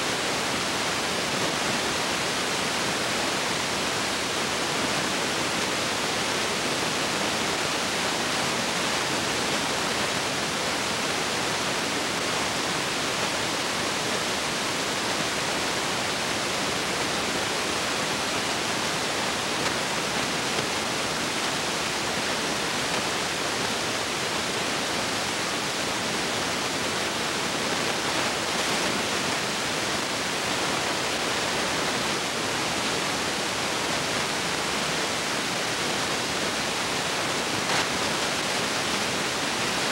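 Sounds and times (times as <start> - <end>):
steady tape hiss: 0.0 - 39.9.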